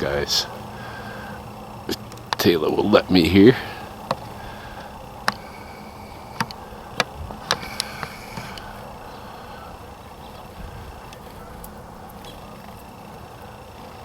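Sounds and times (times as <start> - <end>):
sharp clicks: 0.0 - 14.0
small birds chirping: 0.0 - 14.0
steady background hum: 0.0 - 14.0.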